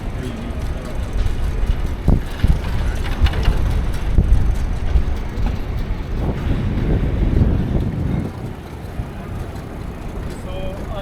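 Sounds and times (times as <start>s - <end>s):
city traffic: 0.0s - 11.0s
wind buffeting microphone: 0.0s - 11.0s.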